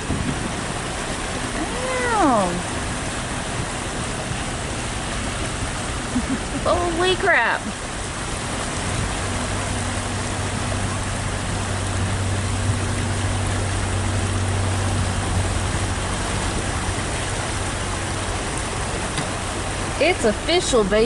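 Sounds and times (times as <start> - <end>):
car engine low hum: 0.0 - 21.0
water rushing and sloshing: 0.0 - 21.0.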